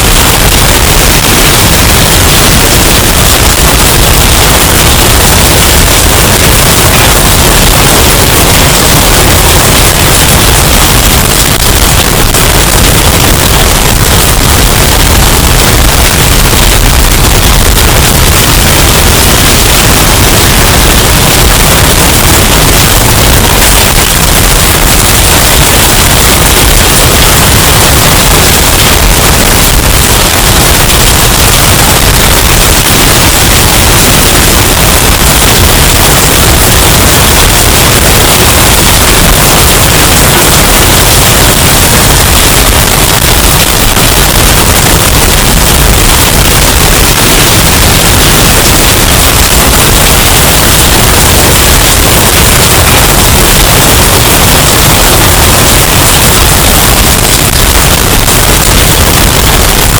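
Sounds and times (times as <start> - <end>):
distorted hurricane wind: 0.0 - 59.9.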